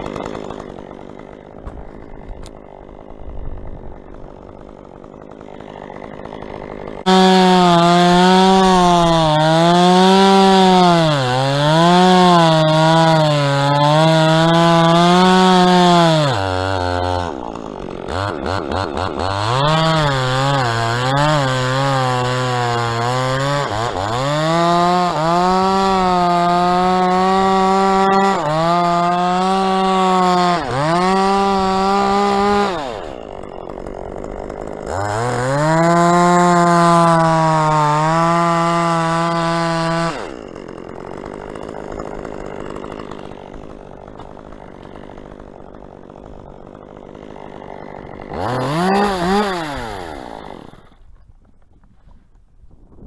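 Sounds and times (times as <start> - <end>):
chainsaw cutting wood: 0.0 - 52.2.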